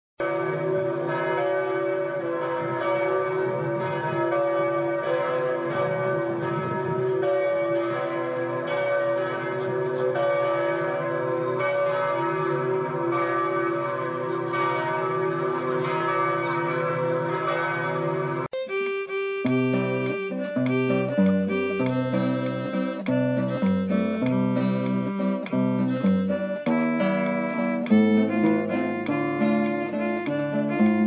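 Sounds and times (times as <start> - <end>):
church bells ringing: 0.2 - 31.0.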